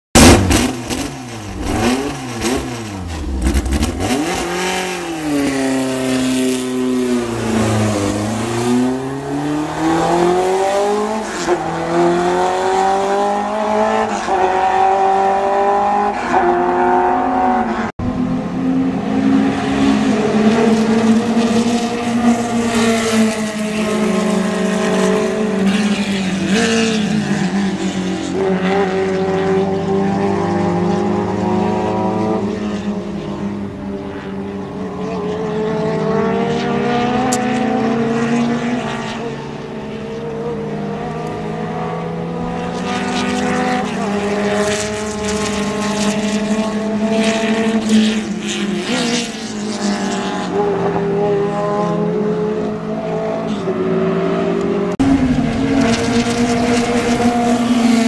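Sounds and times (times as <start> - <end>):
racing car engines revving: 0.2 - 58.0.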